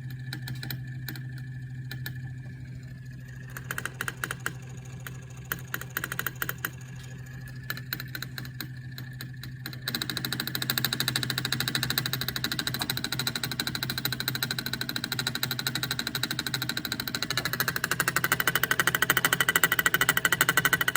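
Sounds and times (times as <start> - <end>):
engine idling: 0.0 - 20.9
valve clicking and chattering: 3.3 - 20.9.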